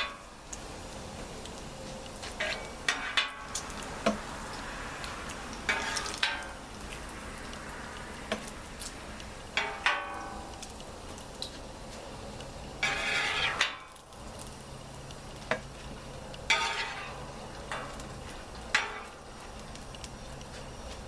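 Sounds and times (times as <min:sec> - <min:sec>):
metal scraping on griddle: 0:00.0 - 0:00.6, 0:01.8 - 0:07.5, 0:08.1 - 0:14.6, 0:15.4 - 0:21.0
burger patties sizzling on griddle: 0:00.0 - 0:21.0.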